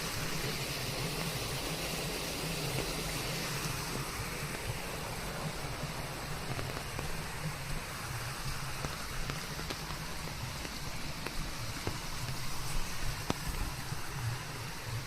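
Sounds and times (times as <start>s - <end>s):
rain falling on leaves: 0.0s - 15.0s.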